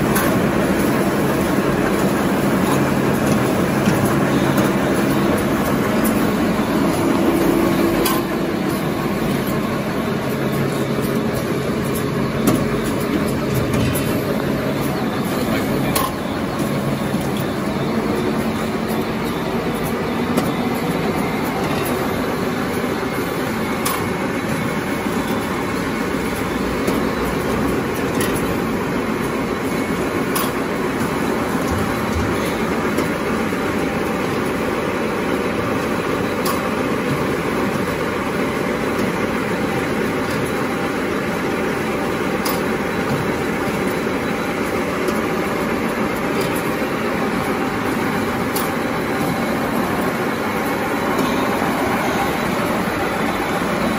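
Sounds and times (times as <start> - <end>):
dense mechanical clatter: 0.0 - 53.9.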